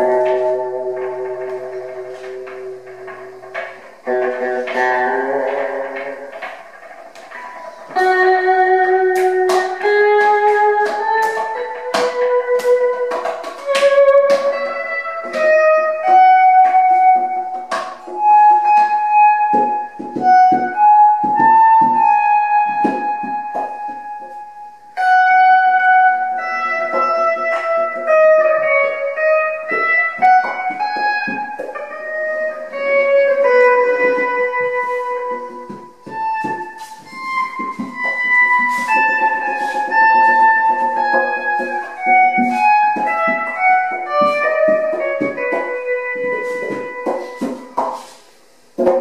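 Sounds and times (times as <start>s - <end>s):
percussion strikes: 0.0s - 49.0s.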